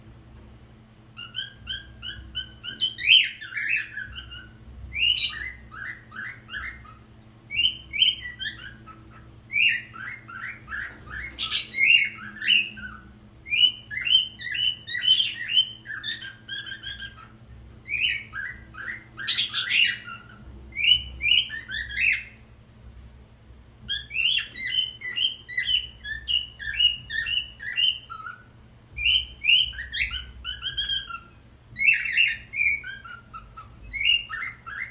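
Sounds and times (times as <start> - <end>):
bird singing piping notes: 1.1 - 22.4, 23.9 - 34.9.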